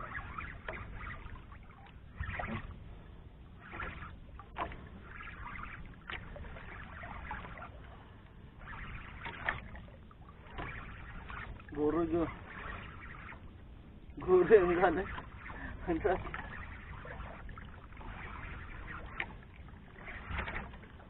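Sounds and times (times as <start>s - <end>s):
steady low rumble: 0.0s - 21.0s
water splashing against boat hull: 0.0s - 21.0s.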